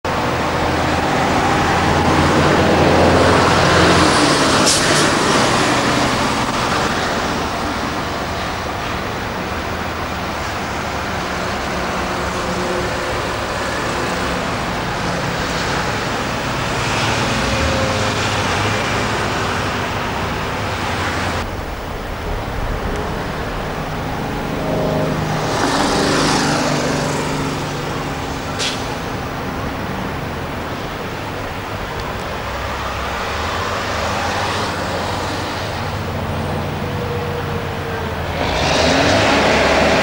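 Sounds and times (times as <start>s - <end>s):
heavy diesel engines running: 0.0s - 40.0s
road traffic: 0.0s - 40.0s.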